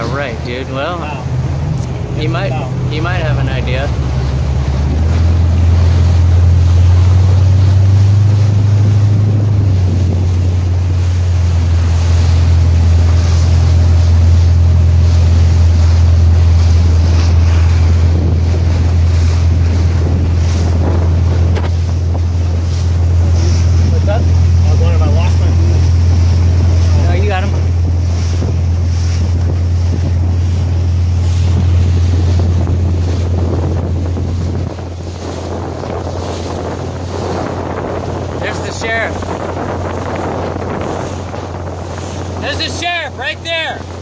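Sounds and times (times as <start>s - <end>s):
motorboat engine droning: 0.0s - 44.0s
waves splashing against hull: 0.0s - 44.0s
wind buffeting microphone: 0.0s - 44.0s.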